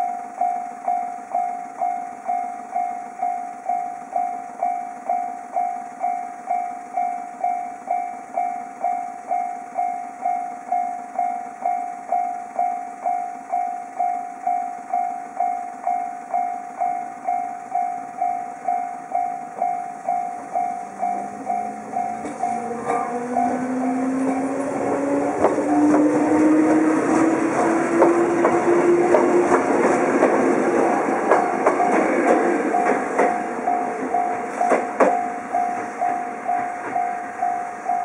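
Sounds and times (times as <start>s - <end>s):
level-crossing bell ringing: 0.0s - 38.0s
train hum: 0.0s - 38.0s.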